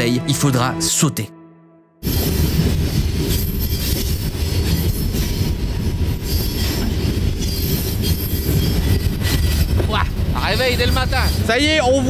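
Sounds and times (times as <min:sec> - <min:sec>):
ore wagons rumbling and rattling: 0:02.0 - 0:12.0.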